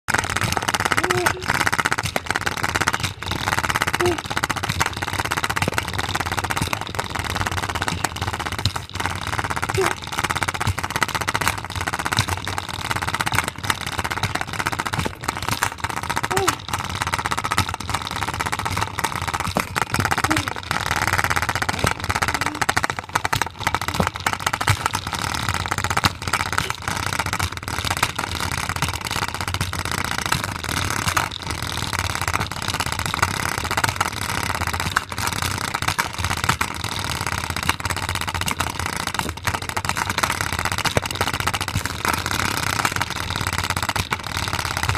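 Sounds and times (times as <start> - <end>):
spinner banging and rattling: 0.1 - 44.9.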